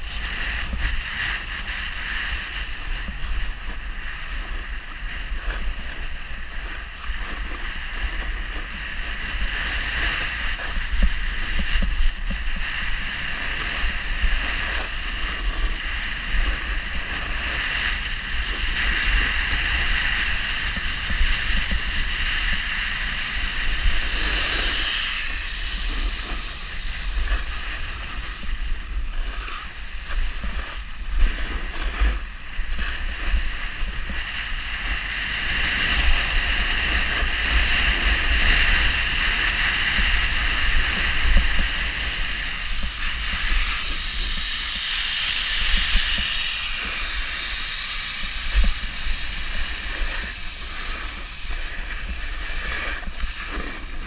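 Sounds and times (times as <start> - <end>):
snowboard edges scraping snow: 0.0 - 54.0
wind buffeting microphone: 0.0 - 54.0.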